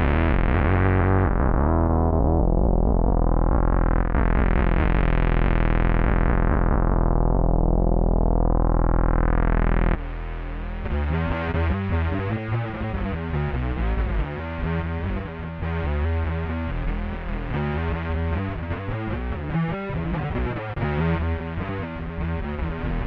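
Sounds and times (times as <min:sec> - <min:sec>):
synth bass tone with sweeping filter: 0:00.0 - 0:23.0.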